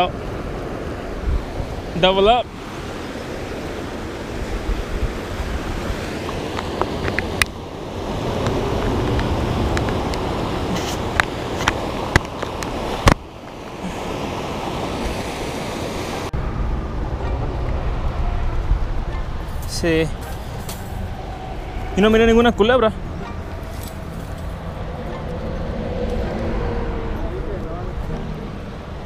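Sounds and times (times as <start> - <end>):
rushing river water: 0.0 - 29.0
wind buffeting microphone: 0.0 - 29.0.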